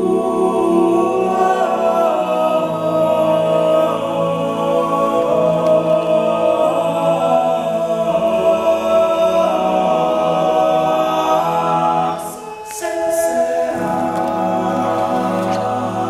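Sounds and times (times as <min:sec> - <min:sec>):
male group singing a cappella: 0:00.0 - 0:16.0.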